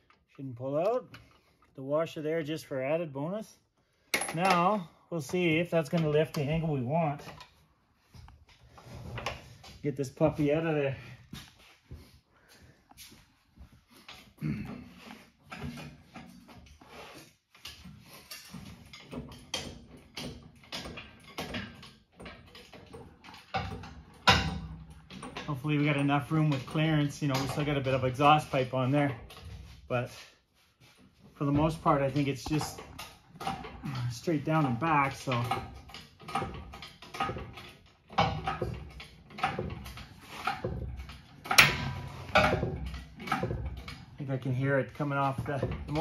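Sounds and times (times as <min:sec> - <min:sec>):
hydraulic hoist creaking and clanking: 0:04.1 - 0:12.1, 0:13.9 - 0:46.0.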